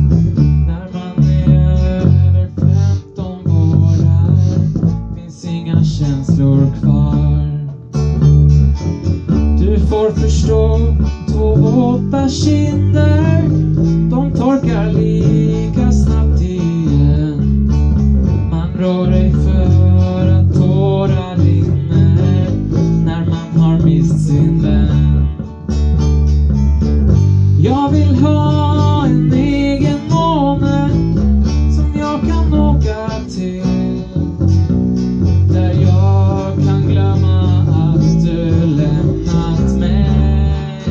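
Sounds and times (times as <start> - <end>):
acoustic guitar strumming: 0.0 - 40.9
electric guitar or bass line: 0.0 - 40.9
person singing into a microphone: 0.6 - 7.8, 9.6 - 17.6, 18.4 - 25.5, 27.6 - 34.4, 35.4 - 40.9.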